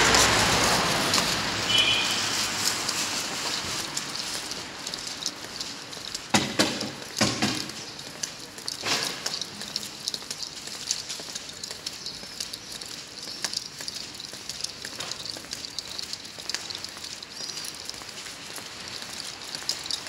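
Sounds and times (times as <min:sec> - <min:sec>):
crackle of small ticks: 0:00.0 - 0:20.0
footsteps on tiled sidewalk: 0:00.0 - 0:20.0.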